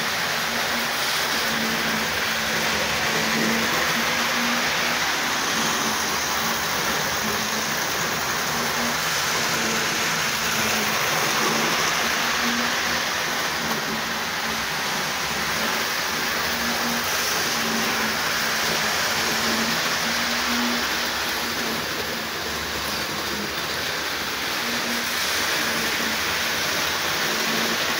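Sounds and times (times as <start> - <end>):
model train whirring on rails: 0.0 - 27.9.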